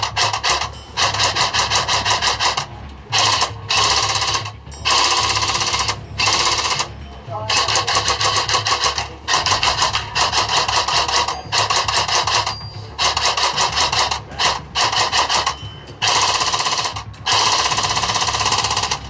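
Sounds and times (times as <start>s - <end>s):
airsoft rifle automatic fire: 0.0s - 6.9s, 7.5s - 19.0s.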